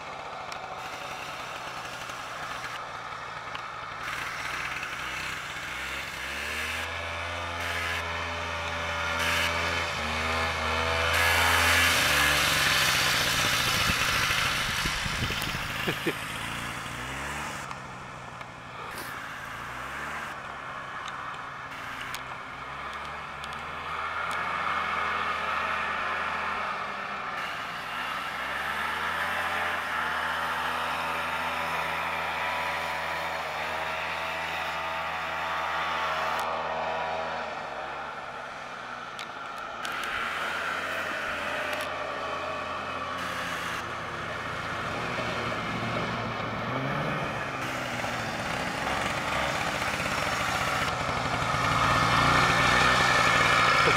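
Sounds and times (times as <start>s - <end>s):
snowmobile engines whining: 0.0s - 53.9s.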